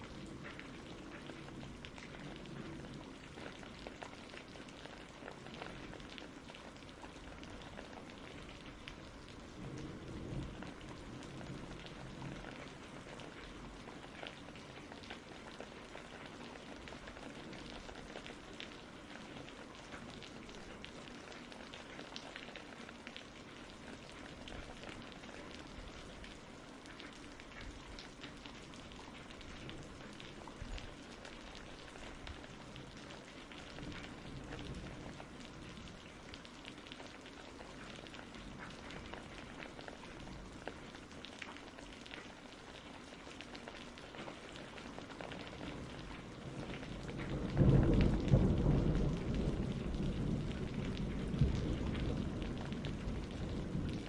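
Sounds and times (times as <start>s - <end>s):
raindrops hitting a surface: 0.0s - 54.0s
steady rain falling: 0.0s - 54.0s.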